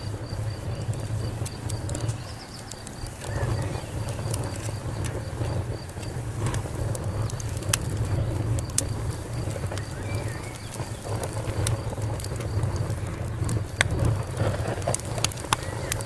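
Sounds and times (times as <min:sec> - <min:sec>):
fire pops and snaps: 0:00.0 - 0:16.0
low rumble of burning: 0:00.0 - 0:16.0.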